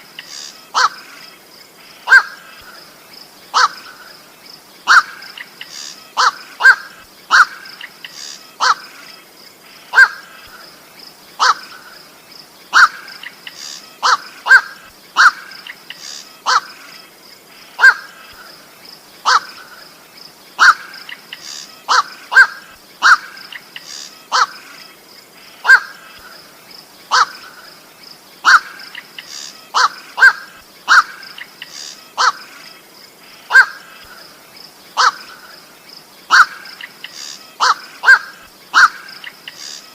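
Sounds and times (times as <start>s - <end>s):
harsh bird calls: 0.0s - 39.9s.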